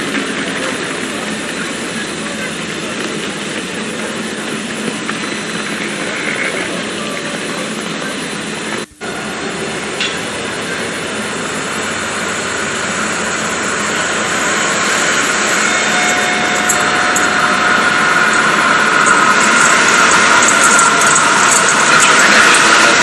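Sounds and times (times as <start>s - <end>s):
distant train approaching: 0.0s - 23.0s.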